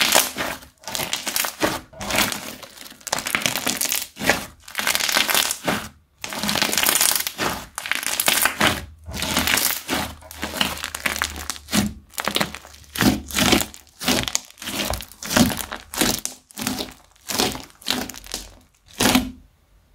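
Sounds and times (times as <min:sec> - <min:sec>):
slime crackling and popping: 0:00.0 - 0:19.4.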